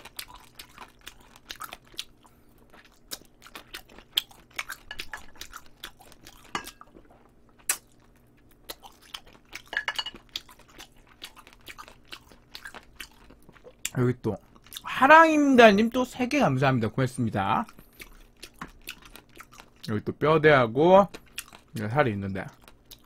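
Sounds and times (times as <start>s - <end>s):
close chewing with mouth clicks: 0.0s - 14.9s, 17.6s - 20.0s, 21.1s - 21.8s, 22.5s - 23.0s.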